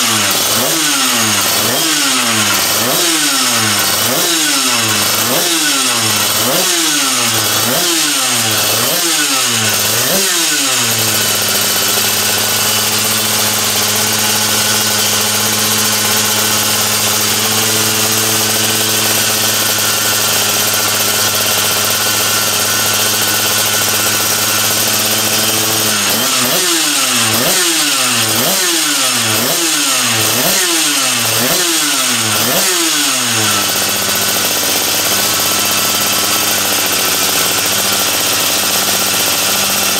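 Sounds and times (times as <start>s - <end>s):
two-stroke kart engine revving: 0.0s - 39.9s.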